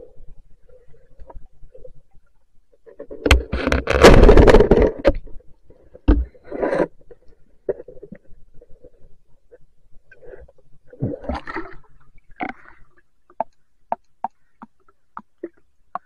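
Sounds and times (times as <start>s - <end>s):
underwater knocks and scraping: 0.0s - 16.0s.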